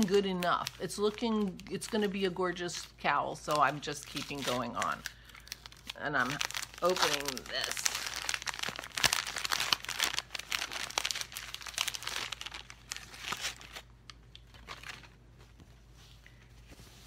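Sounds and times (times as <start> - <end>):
wrapping paper crinkling: 0.0 - 17.0.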